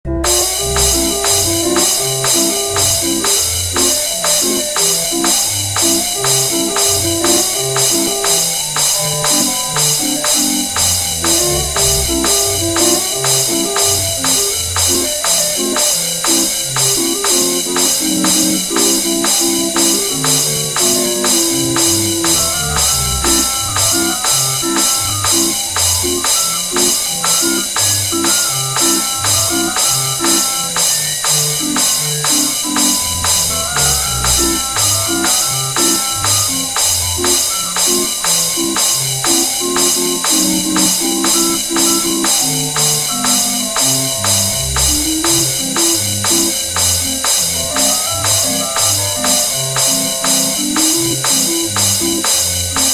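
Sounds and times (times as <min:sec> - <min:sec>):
barrel organ tune: 0:00.0 - 0:52.9
jingling cymbal-like percussion: 0:00.2 - 0:52.9.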